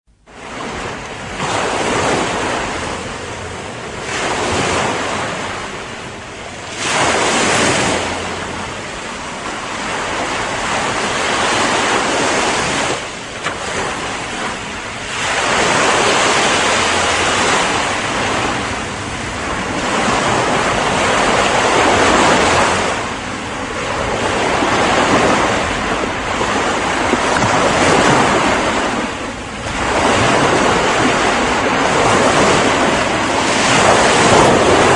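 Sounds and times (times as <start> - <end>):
ocean waves breaking on shore: 0.1 - 34.9
wind on microphone: 0.3 - 34.9.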